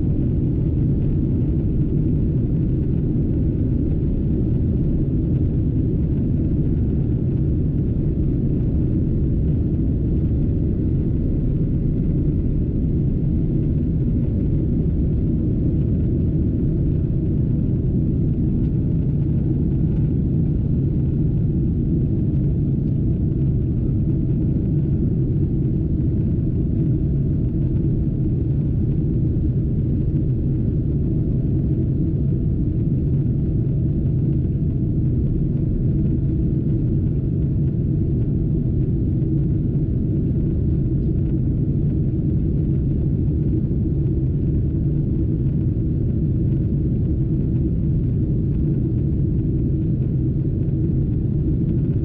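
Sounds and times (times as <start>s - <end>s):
jet engines rumbling: 0.0s - 52.0s.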